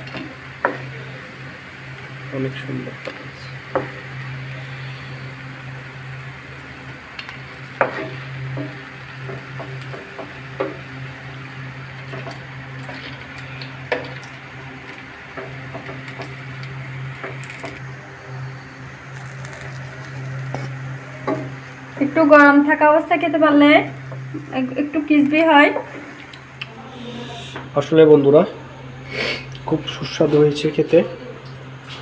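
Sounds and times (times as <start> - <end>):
frying in hot oil: 0.0 - 32.0
steady low hum: 0.0 - 32.0.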